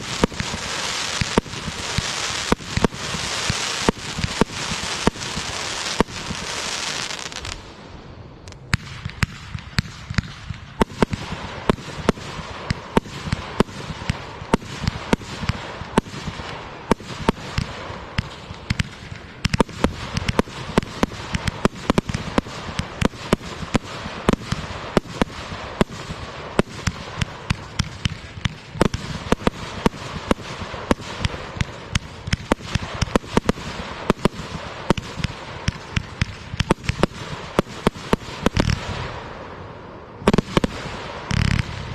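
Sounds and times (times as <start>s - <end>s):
fireworks bangs and cracks: 0.0s - 41.9s.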